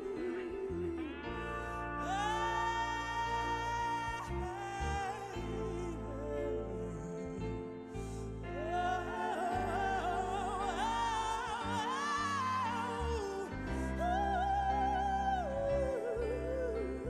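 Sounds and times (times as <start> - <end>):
solo voice singing slow melody: 0.0 - 17.0.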